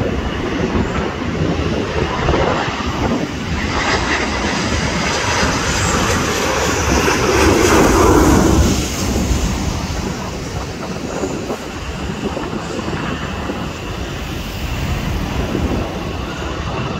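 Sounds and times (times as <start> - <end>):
jet airliner passing overhead: 0.0 - 16.9.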